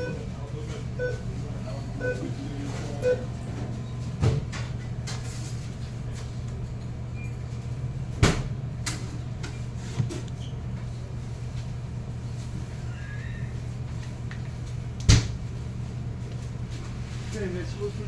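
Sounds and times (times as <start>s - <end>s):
shop low hum: 0.0s - 18.0s.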